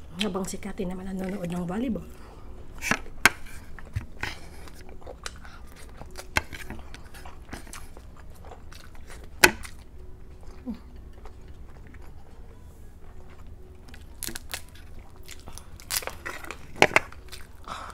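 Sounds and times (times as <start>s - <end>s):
close-miked chewing and biting: 2.7s - 17.9s.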